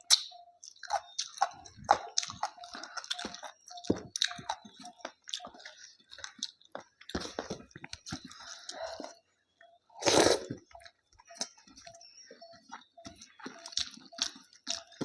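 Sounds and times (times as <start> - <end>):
chewing with mouth smacks: 0.0 - 9.2, 10.0 - 15.0.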